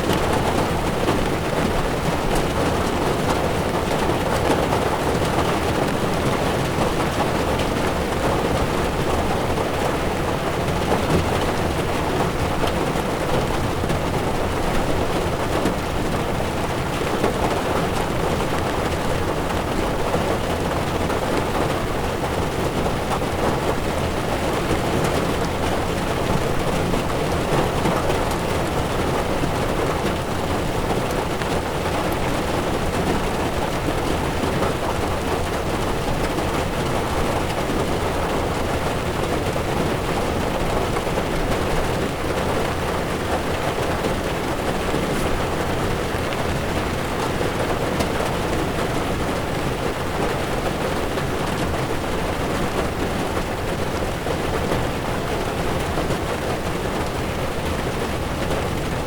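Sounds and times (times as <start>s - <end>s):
heavy rain on car windshield: 0.0s - 59.0s
tyres rumbling on wet road: 0.0s - 59.0s.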